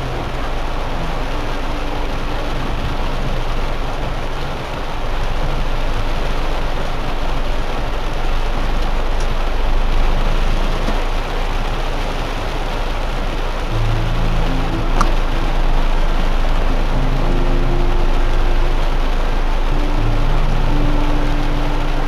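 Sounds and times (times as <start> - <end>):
car rumbling: 0.0 - 22.0
heavy rain on a car windshield: 0.0 - 22.0.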